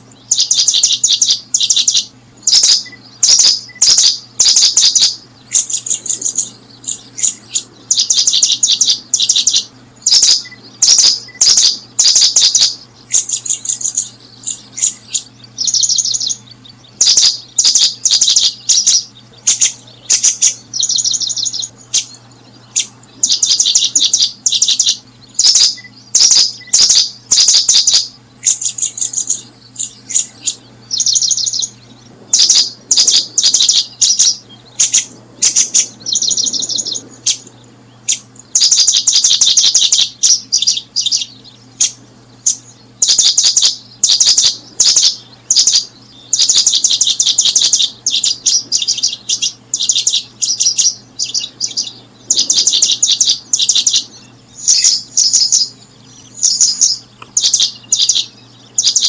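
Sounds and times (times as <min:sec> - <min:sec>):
buzzy bird trills: 0:00.0 - 0:59.0
small bird chirping: 0:00.0 - 0:59.0.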